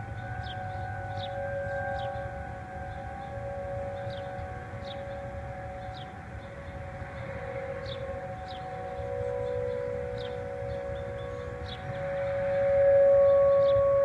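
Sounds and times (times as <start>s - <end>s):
distant warning sirens: 0.0s - 14.0s.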